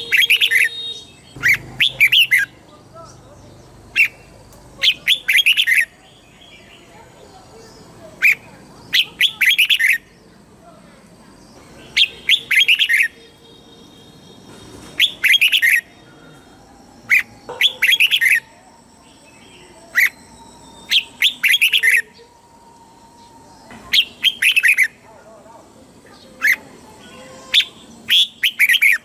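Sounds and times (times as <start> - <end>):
bulbul singing chattering notes: 0.0 - 10.4, 11.4 - 25.0, 26.4 - 29.0.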